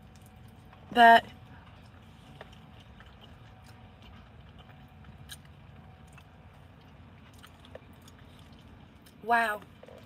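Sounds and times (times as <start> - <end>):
low steady hum: 0.0 - 10.0
person chewing food: 0.0 - 10.0.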